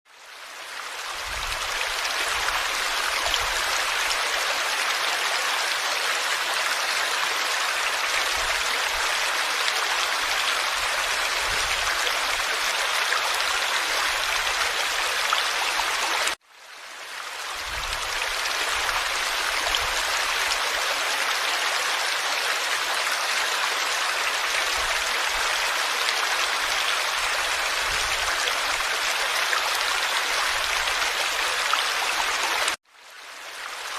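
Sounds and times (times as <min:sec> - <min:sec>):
stream water rushing: 0:00.3 - 0:33.9.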